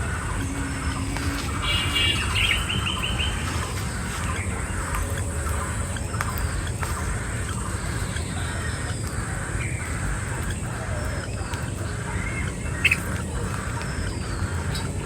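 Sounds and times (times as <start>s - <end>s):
birds chattering: 0.0s - 15.0s
birds whistling: 0.0s - 15.0s.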